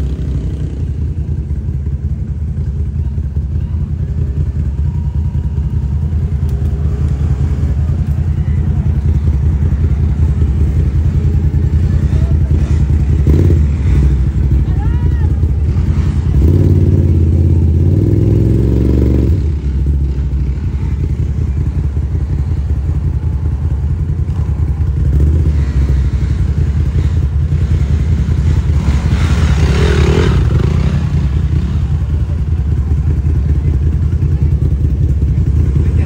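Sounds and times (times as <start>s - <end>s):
off-road vehicle revving: 0.0s - 2.8s, 3.6s - 36.0s
quad engines running: 0.0s - 36.0s.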